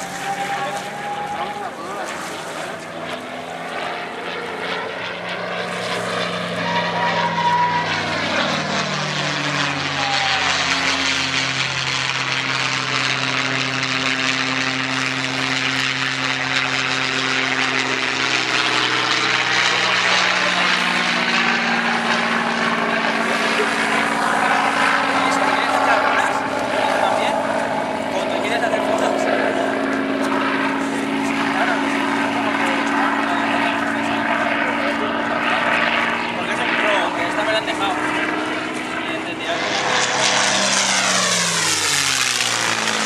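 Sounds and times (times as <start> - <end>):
propeller plane engine: 0.0 - 43.0.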